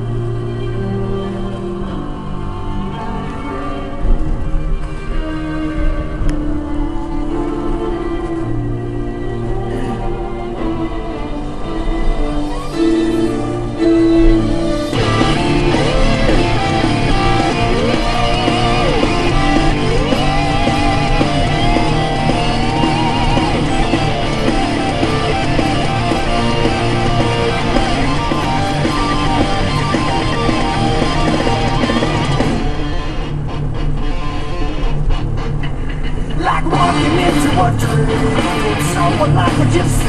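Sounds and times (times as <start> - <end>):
rock music with electric guitar: 0.0 - 40.0.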